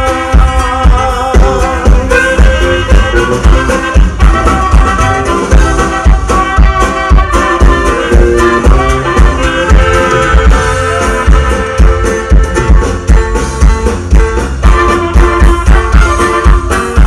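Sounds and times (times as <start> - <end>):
dance music with brass and drums: 0.0 - 17.0.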